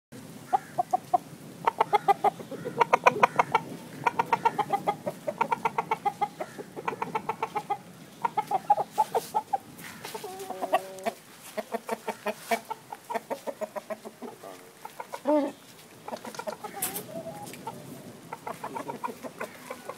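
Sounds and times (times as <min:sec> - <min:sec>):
chicken drawn-out call: 0:00.4 - 0:19.9
chicken clucking: 0:00.5 - 0:19.9.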